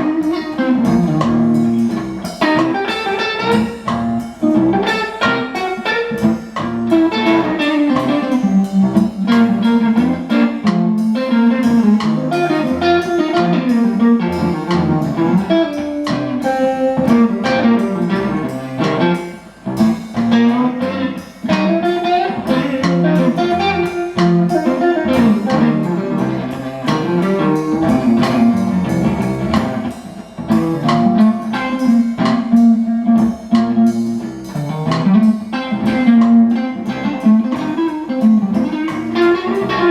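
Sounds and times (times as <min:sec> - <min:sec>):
live blues guitar music: 0:00.0 - 0:39.9.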